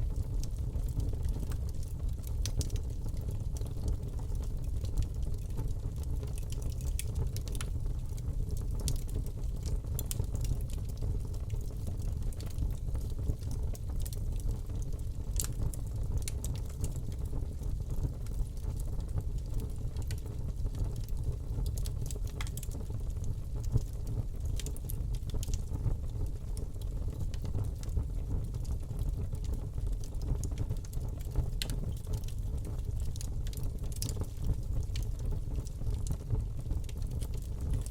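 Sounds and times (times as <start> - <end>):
fire crackling and popping: 0.0 - 37.9.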